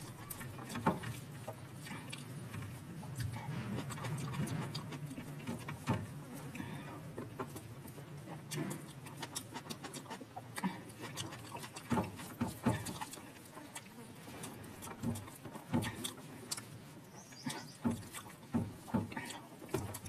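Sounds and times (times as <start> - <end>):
person chewing with mouth clicks: 0.0 - 20.0.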